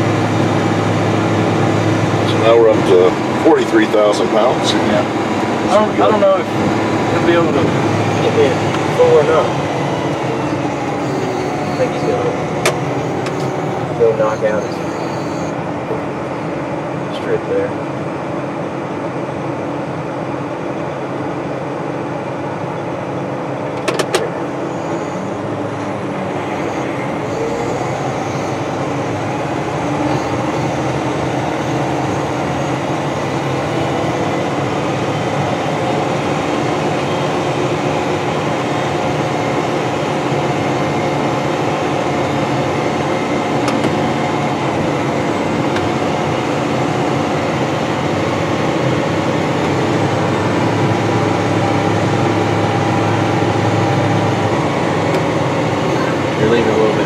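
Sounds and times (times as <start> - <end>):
tractor engine drone: 0.0 - 57.0.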